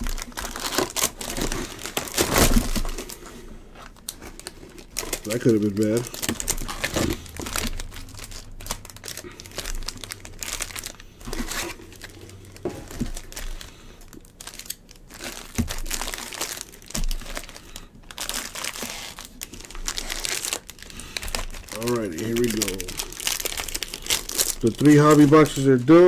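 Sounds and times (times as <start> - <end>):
foil wrappers crinkling: 0.0 - 26.0.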